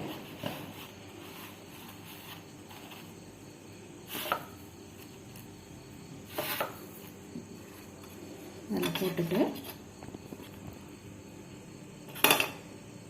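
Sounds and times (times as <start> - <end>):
dough rustling in bread crumbs: 0.0 - 10.9.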